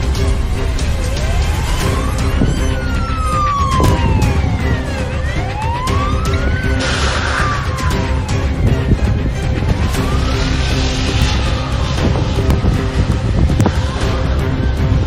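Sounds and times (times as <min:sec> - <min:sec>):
background music: 0:00.0 - 0:15.0
police siren wailing: 0:00.0 - 0:15.0.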